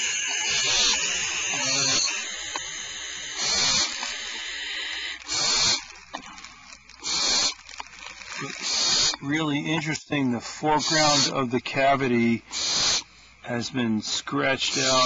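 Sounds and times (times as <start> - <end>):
owl nestlings hissing: 0.0 - 15.0.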